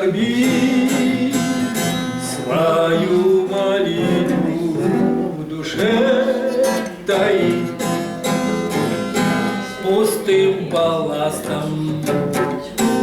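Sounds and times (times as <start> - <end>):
person singing: 0.0 - 9.0, 9.6 - 13.0
strummed acoustic guitar: 0.0 - 13.0.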